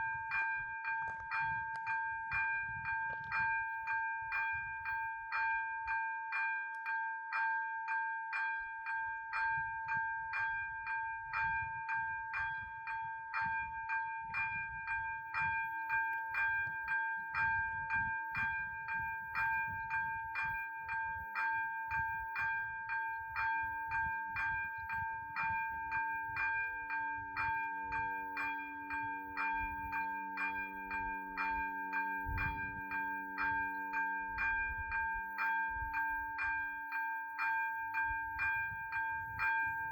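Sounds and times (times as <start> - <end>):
level-crossing bells ringing: 0.0 - 39.9.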